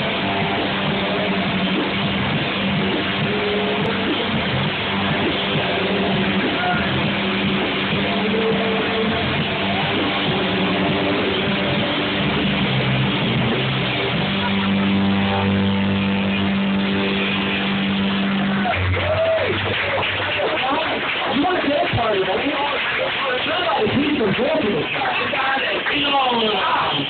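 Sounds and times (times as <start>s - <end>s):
electric guitar: 0.0s - 26.0s
bass guitar: 0.0s - 27.0s.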